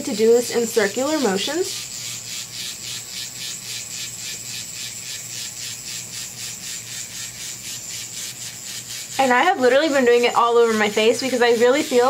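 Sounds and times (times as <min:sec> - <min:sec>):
facial hair remover buzzing: 0:00.0 - 0:12.0.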